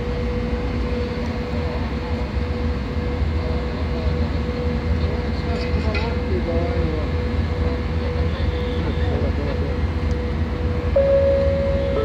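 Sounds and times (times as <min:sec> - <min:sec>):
electric locomotive humming: 0:00.0 - 0:12.0.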